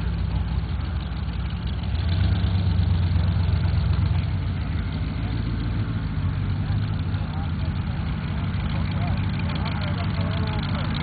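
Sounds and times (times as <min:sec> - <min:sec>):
truck engine at low revs: 0:00.0 - 0:11.0.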